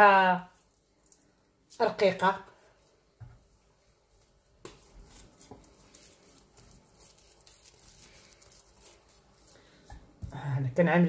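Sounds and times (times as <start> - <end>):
hand kneading sticky dough: 0.0 - 11.0.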